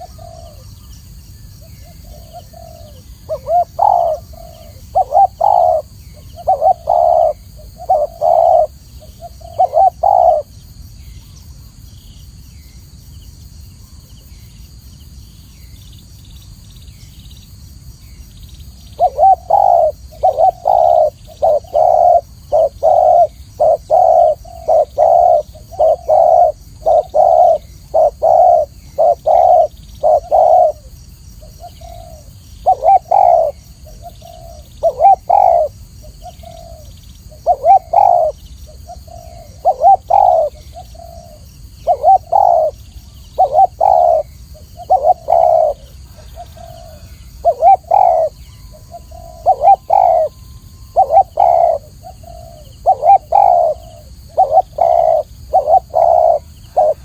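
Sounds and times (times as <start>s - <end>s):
dove cooing: 0.0s - 0.8s, 1.6s - 10.5s, 19.0s - 57.0s.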